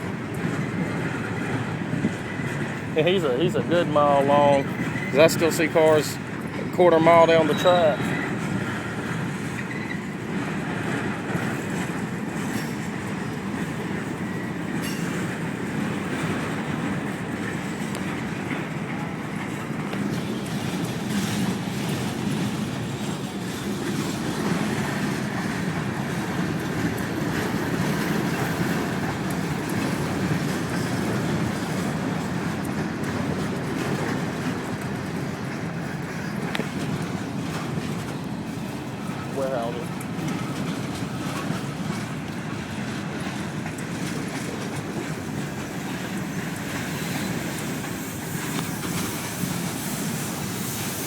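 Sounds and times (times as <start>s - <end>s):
freight cars rolling past: 0.0s - 51.0s.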